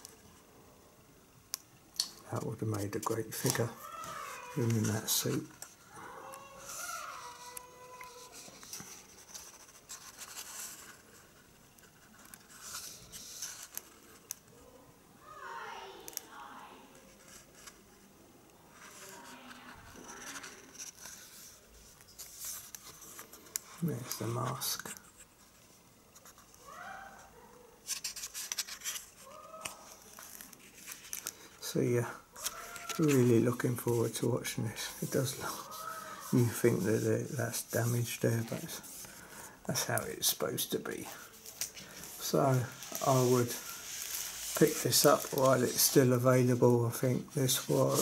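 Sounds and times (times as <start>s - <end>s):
paper rustling: 2.3s - 14.6s, 18.7s - 48.0s.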